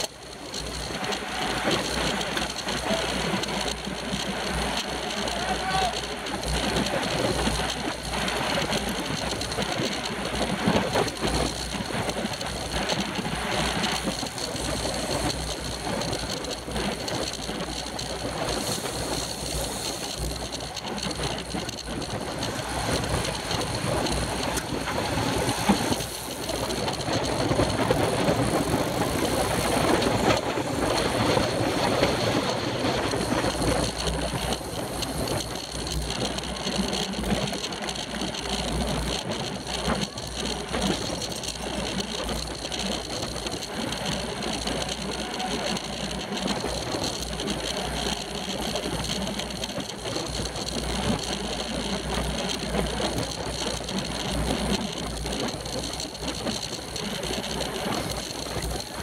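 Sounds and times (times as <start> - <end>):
tyre and road noise: 0.0 - 59.0.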